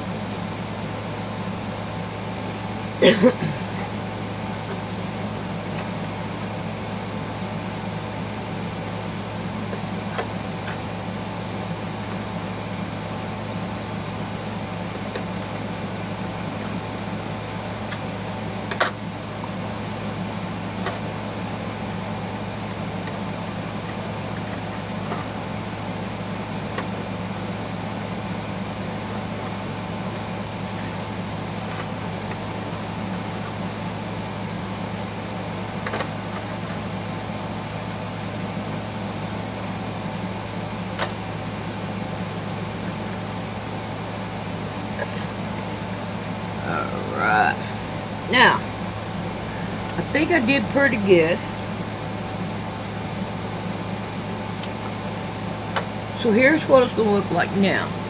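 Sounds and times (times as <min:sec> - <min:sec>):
fan humming: 0:00.0 - 0:58.0.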